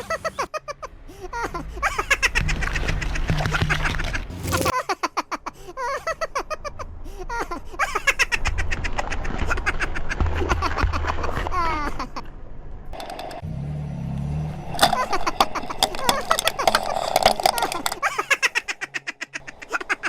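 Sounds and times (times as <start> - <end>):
high-pitched laughter: 0.0 - 12.4, 14.9 - 20.0.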